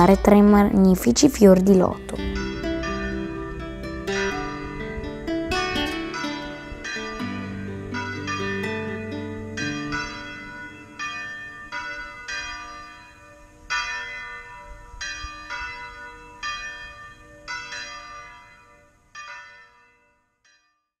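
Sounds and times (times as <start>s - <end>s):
church bells ringing: 0.0s - 20.6s.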